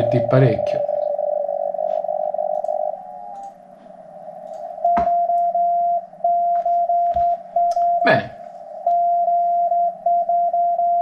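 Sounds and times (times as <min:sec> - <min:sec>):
morse code tone: 0:00.0 - 0:03.4, 0:04.8 - 0:11.0
chopped buzzy radio signal: 0:00.0 - 0:09.6.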